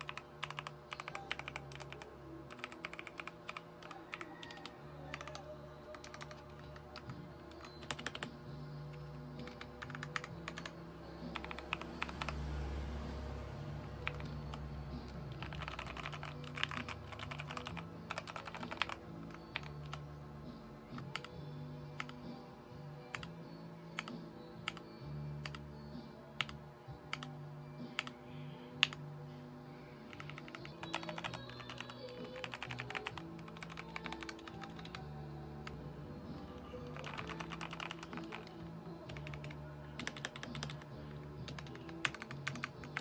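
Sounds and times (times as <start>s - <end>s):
background music: 0.0s - 43.0s.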